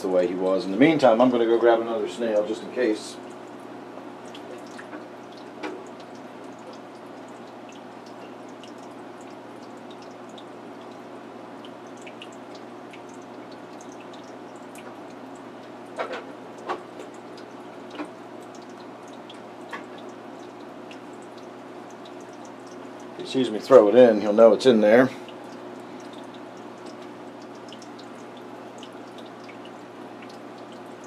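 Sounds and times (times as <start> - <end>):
aquarium water trickling: 0.0 - 31.0
steady hum: 0.0 - 31.0.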